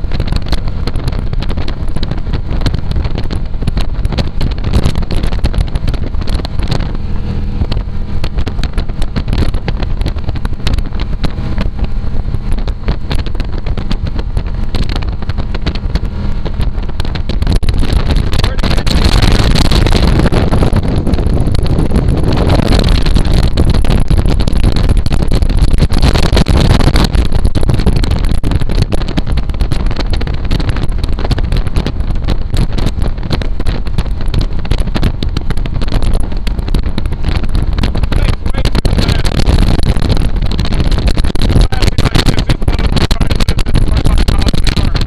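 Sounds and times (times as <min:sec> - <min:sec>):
boat engine running: 0:00.0 - 0:45.0
wind buffeting microphone: 0:00.0 - 0:45.0.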